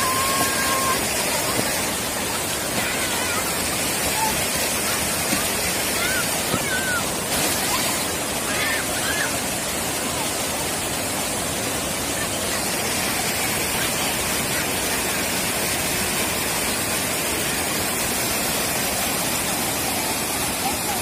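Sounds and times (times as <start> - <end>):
water rushing over ledge: 0.0 - 21.0.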